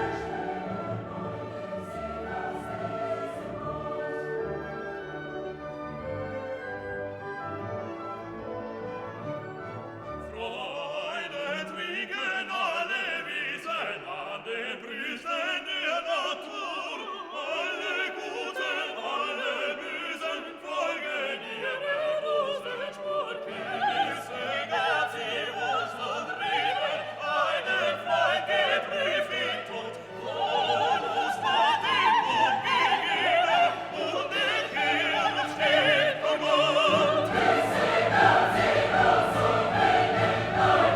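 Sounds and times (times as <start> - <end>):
choir singing operatically: 0.0 - 40.9
orchestra: 0.0 - 40.9.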